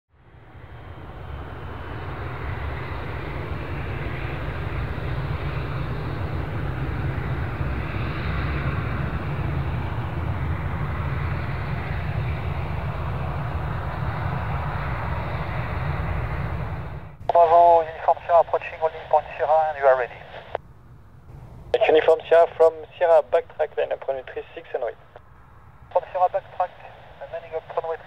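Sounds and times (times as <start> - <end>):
jet engines running steadily: 0.1 - 28.0.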